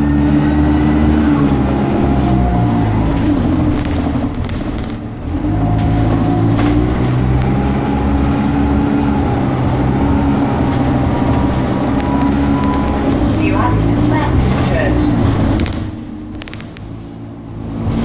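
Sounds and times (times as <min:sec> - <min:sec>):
bus diesel engine drone: 0:00.0 - 0:18.0
road noise: 0:00.0 - 0:18.0.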